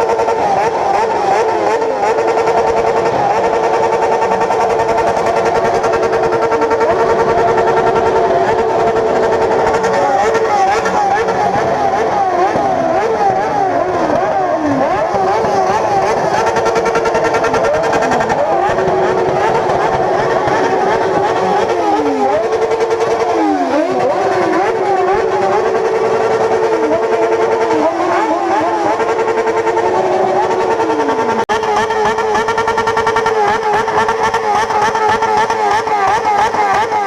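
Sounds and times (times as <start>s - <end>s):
engine bouncing off rev limiter: 0.0s - 37.0s
motorcycle engines revving: 0.0s - 37.0s.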